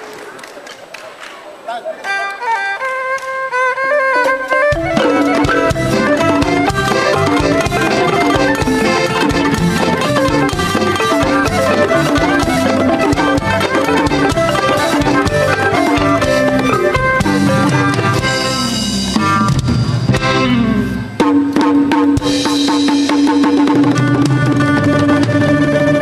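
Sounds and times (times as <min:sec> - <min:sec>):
instrumental music with percussion: 0:02.6 - 0:26.0.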